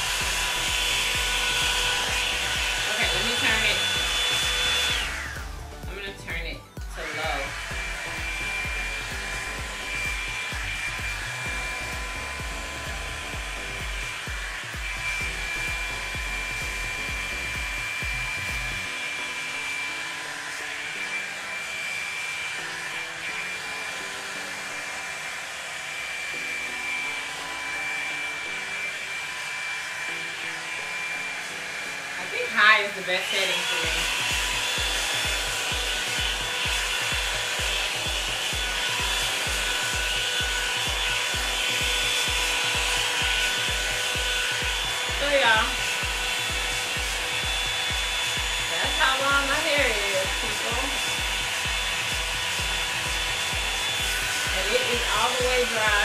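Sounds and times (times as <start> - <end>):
hair dryer brush blowing: 0.0 - 56.0.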